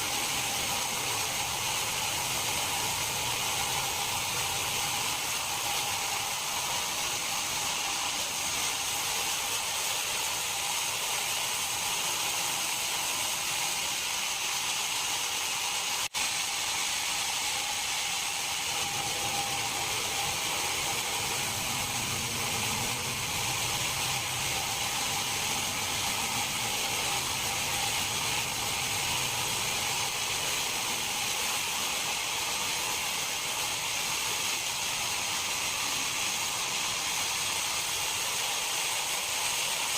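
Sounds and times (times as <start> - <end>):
factory machinery hiss and hum: 0.0 - 39.9.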